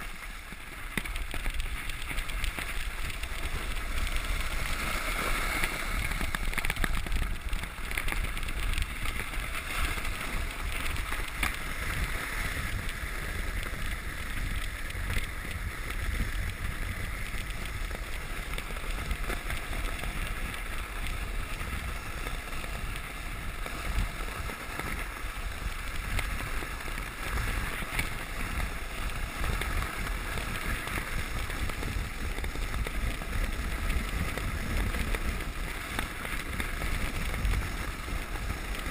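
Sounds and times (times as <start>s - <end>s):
low wind rumble on microphone: 0.0s - 38.9s
sled hissing over snow: 0.0s - 38.9s.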